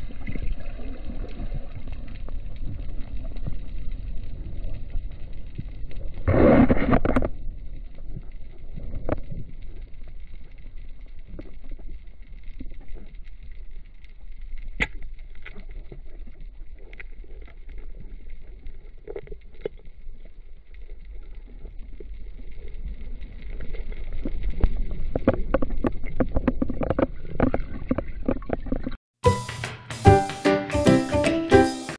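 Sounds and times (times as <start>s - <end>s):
low underwater rumble: 0.0s - 29.0s.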